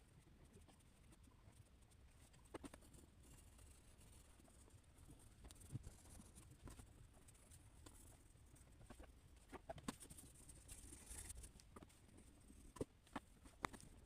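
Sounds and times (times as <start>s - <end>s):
pencil tapping and scratching on paper: 2.2s - 14.0s.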